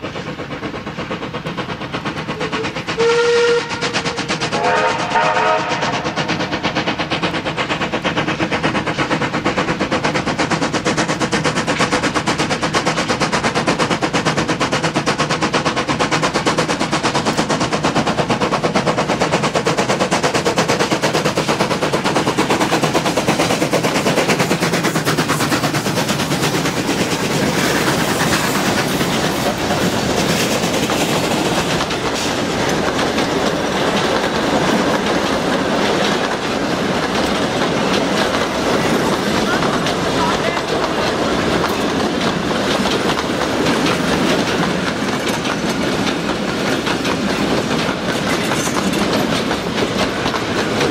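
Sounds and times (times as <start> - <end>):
steam locomotive exhaust chuffing: 0.0 - 50.9
train carriages rolling past: 0.0 - 50.9.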